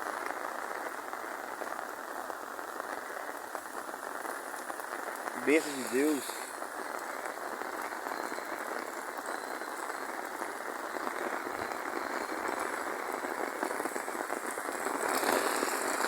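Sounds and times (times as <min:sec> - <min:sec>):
heavy rain patter: 0:00.0 - 0:16.0.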